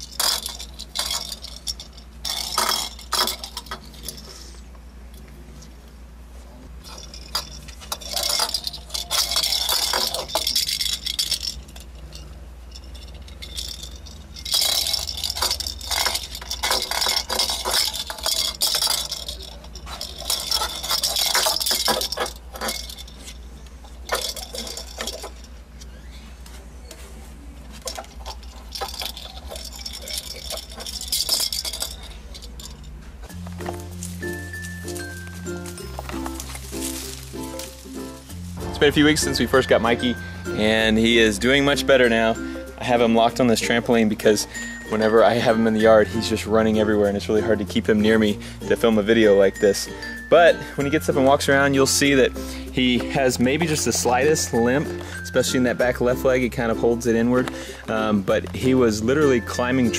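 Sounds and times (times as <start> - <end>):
toy jingling in metal cage: 0.0 - 4.6, 6.8 - 26.0, 27.7 - 59.9.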